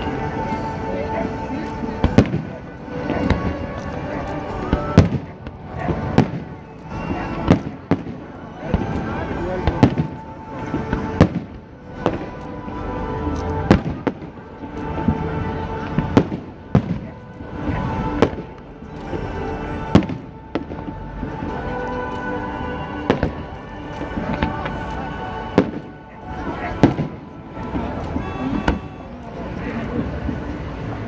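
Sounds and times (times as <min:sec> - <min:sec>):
music playing: 0:00.0 - 0:31.0.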